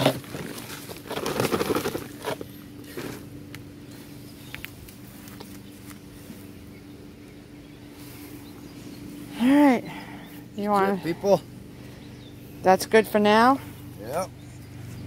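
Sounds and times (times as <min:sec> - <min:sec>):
lawn mower droning: 0:00.0 - 0:15.0
rustling soil and plants: 0:00.0 - 0:15.0.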